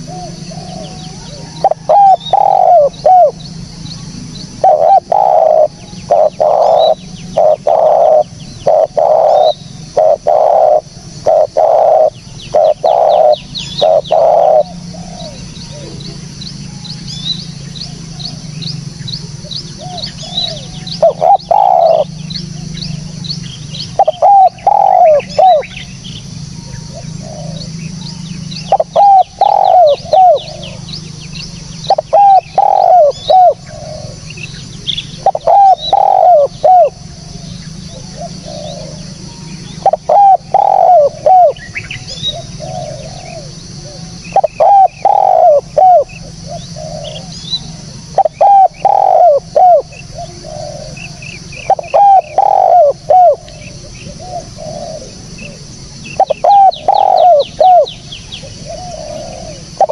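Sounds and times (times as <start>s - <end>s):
dove cooing: 0.0s - 59.9s
low steady hum: 0.0s - 59.9s
small birds chirping: 0.0s - 59.9s.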